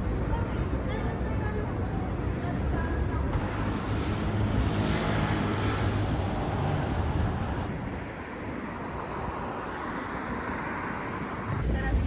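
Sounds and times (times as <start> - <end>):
traffic hum: 0.0 - 12.0.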